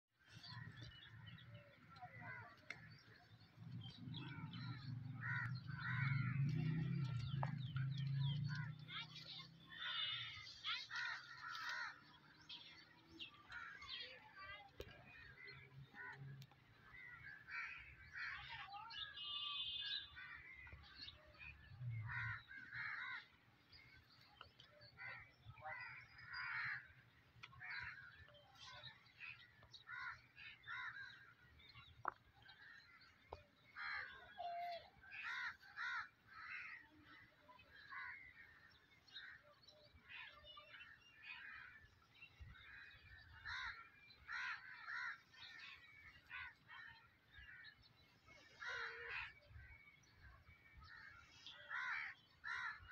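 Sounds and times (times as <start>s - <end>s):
faint crows cawing: 4.1s - 8.7s, 9.6s - 12.5s, 15.1s - 19.1s, 19.7s - 52.9s.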